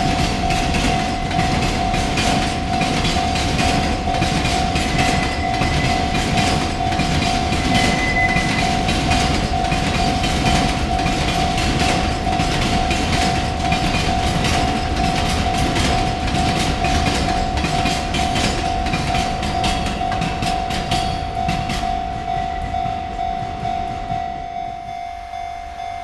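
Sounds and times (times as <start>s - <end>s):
train wheels clattering over rails: 0.0s - 25.0s
crossing warning bell ringing: 0.0s - 26.0s.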